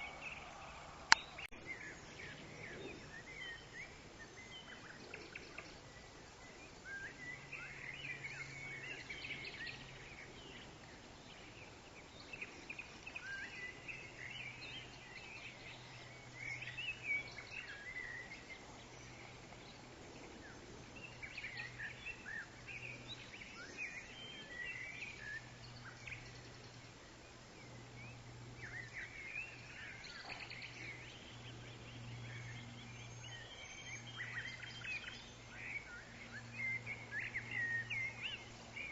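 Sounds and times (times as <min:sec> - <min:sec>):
birds chirping and twittering: 0:00.0 - 0:38.9
faint low drone: 0:00.0 - 0:38.9.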